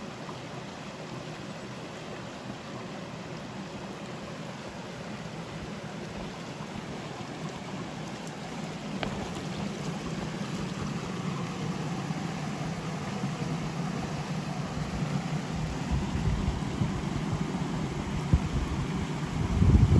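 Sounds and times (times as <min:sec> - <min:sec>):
mountain stream rushing: 0:00.0 - 0:19.9.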